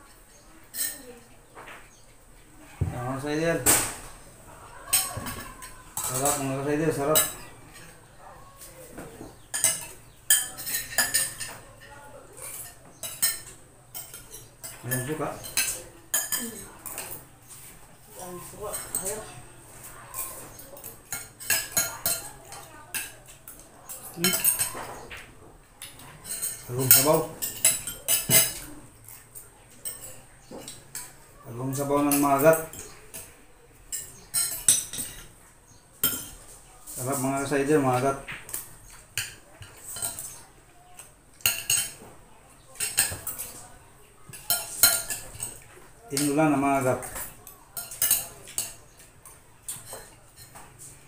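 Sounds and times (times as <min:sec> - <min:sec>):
cutlery clinking on plates: 0:00.0 - 0:51.0.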